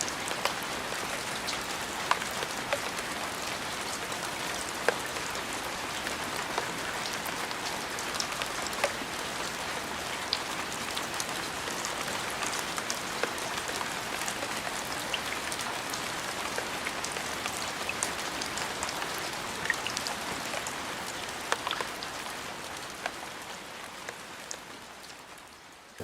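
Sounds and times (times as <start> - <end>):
raindrops ticking: 0.0 - 24.6
rain falling: 0.0 - 26.0.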